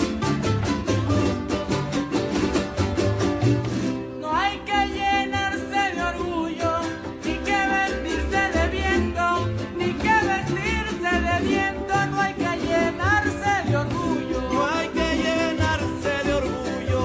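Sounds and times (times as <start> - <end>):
latin style background music: 0.0 - 17.0.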